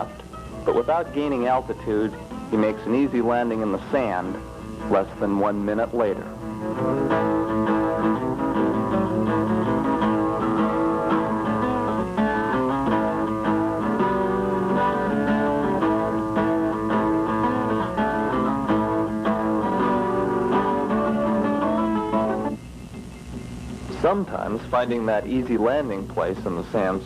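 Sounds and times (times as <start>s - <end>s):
plucked guitar music: 0.0s - 27.0s.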